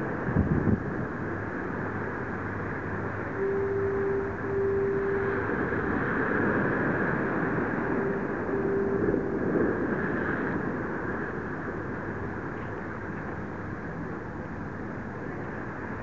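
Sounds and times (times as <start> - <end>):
choppy water: 0.0 - 16.0
faint steady tone: 0.0 - 16.0.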